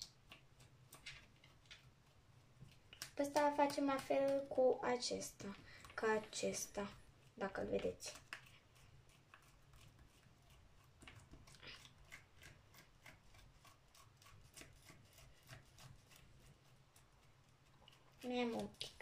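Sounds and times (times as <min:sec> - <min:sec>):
marker scribbling scratchy taps: 0:02.6 - 0:19.0.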